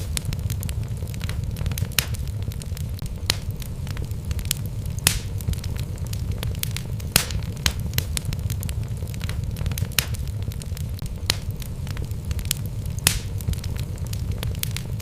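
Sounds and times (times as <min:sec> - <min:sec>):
low rumble of flame: 0:00.0 - 0:15.0
wood crackling and popping: 0:00.0 - 0:15.0.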